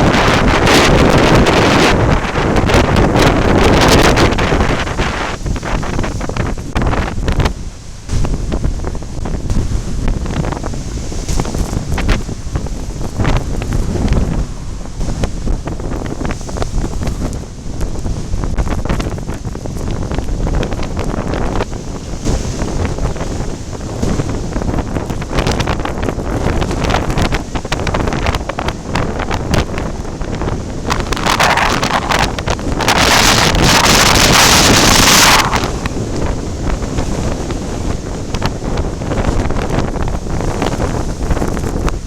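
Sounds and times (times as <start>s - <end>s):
rough sea: 0.0s - 42.0s
wind buffeting microphone: 0.0s - 42.0s.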